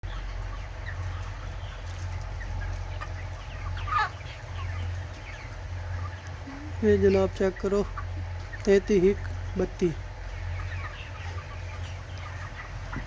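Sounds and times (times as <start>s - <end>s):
chickens calling: 0.0s - 13.0s
ventilation fans humming: 0.1s - 13.0s.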